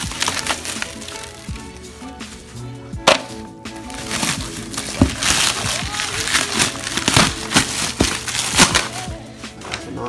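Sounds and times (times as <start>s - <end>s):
plastic wrap crinkling: 0.0s - 2.6s, 3.8s - 9.9s.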